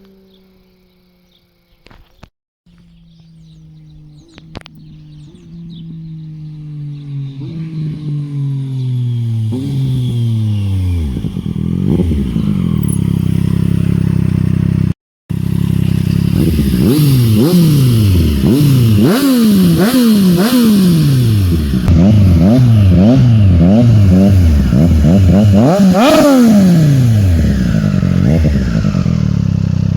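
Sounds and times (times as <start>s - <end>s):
motorcycle throttle blips: 1.8s - 29.9s
motorcycle engine idling: 2.7s - 29.9s.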